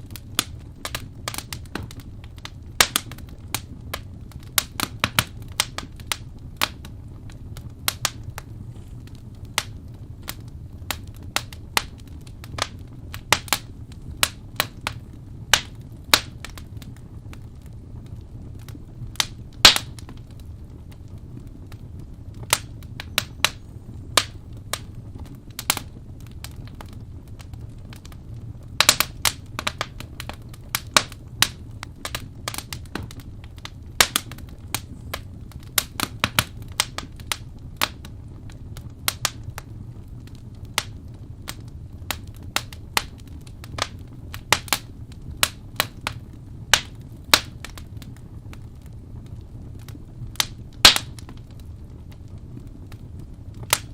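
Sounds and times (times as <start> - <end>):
low rumble of burning fire: 0.0 - 53.9
wood fire crackling and popping: 0.0 - 53.9.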